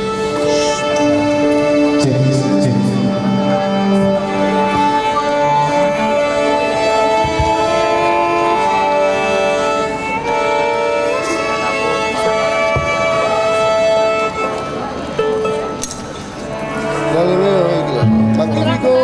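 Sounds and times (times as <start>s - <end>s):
orchestral music with bowed strings: 0.0s - 19.0s.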